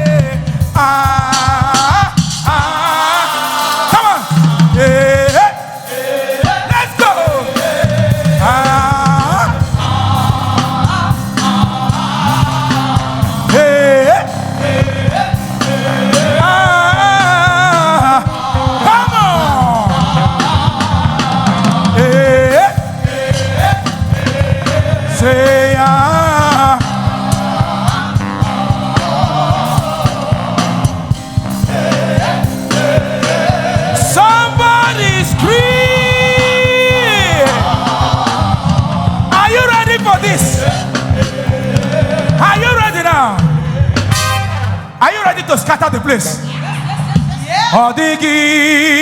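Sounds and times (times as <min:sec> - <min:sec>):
person singing: 0:00.0 - 0:44.0
steady drum beat: 0:00.0 - 0:46.2
band playing upbeat groove: 0:00.0 - 0:49.0.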